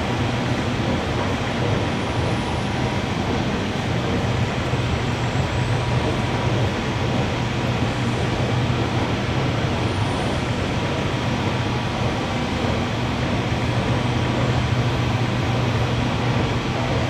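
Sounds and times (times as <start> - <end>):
underground station rumble: 0.0 - 17.0.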